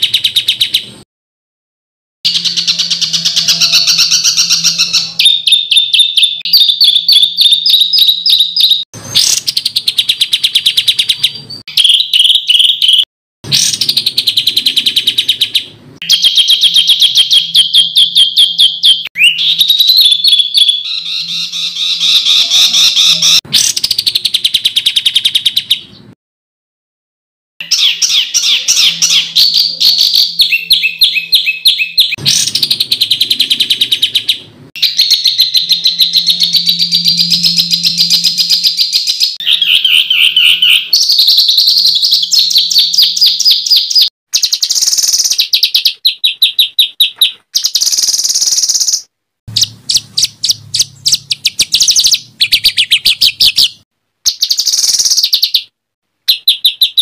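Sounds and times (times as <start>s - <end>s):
songbirds chattering and trilling: 2.3s - 26.1s, 27.6s - 55.7s.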